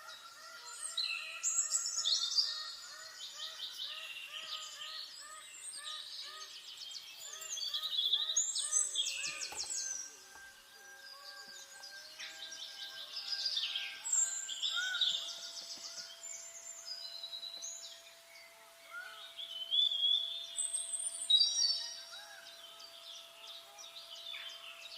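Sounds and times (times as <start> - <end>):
birds chirping and trilling: 0.0 - 24.9.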